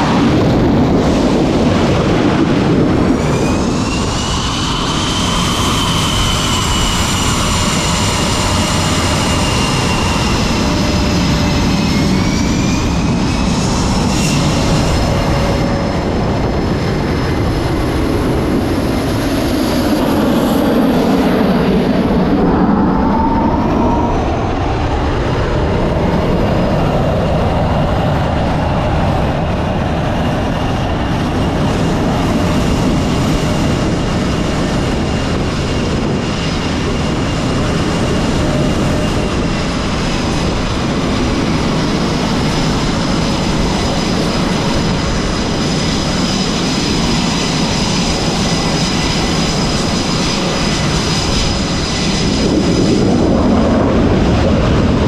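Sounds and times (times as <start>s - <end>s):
high-pitched engine whine: 0.0s - 55.0s
jet engines roaring: 0.0s - 55.0s.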